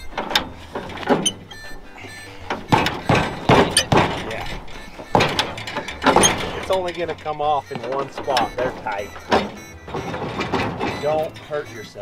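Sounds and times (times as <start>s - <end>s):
background music: 0.0s - 12.0s
metal clunks and knocks: 0.0s - 12.0s.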